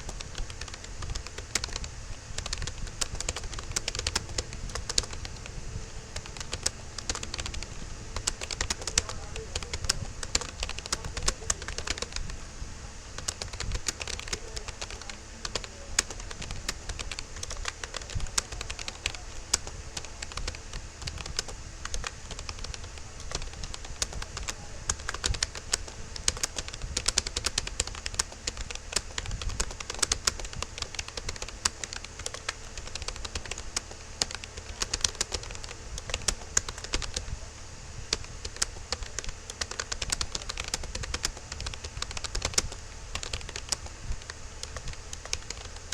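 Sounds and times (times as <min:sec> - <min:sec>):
keyboard typing clicks: 0:00.0 - 0:12.4, 0:13.2 - 0:37.3, 0:38.1 - 0:45.9.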